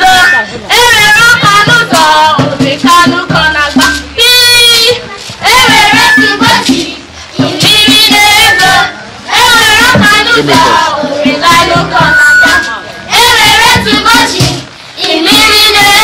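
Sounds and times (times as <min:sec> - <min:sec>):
girl singing into microphone: 0:00.0 - 0:16.0
music with steady beat: 0:00.0 - 0:16.0.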